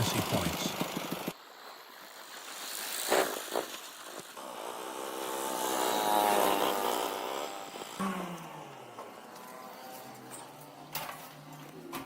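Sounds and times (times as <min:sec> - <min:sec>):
motor running with wavering hum: 0:00.0 - 0:11.8.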